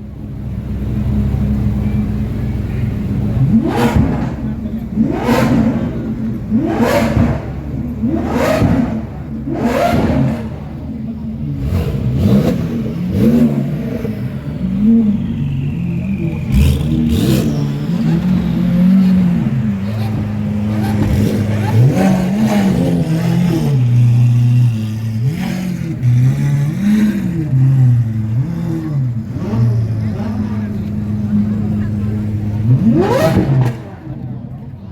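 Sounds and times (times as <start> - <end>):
sports car engine revving: 0.1 - 34.9.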